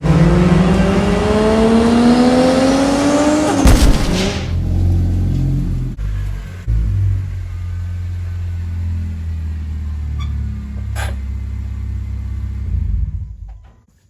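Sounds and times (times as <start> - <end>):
car engine accelerating: 0.0 - 13.6.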